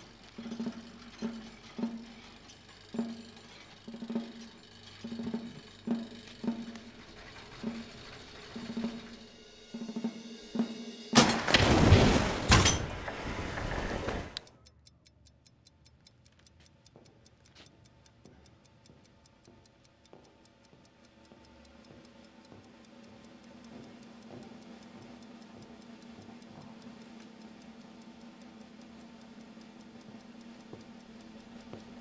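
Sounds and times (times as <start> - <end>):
stopwatch ticking: 0.0 - 10.7, 14.4 - 32.0.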